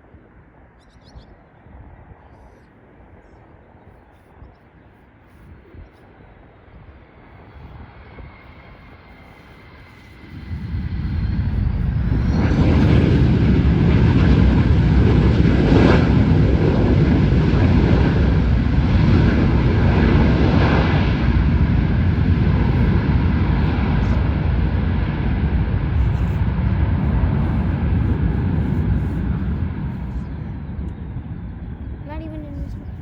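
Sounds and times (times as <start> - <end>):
airliner engines passing: 0.0 - 33.0.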